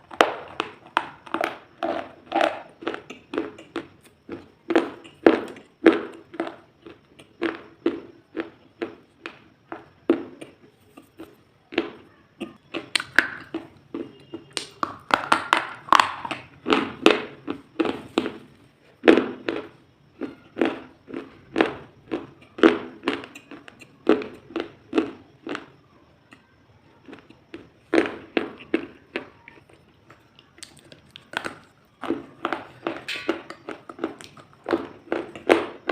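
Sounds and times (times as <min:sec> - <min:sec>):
rhythmic crunching of something brittle: 0:00.0 - 0:35.9.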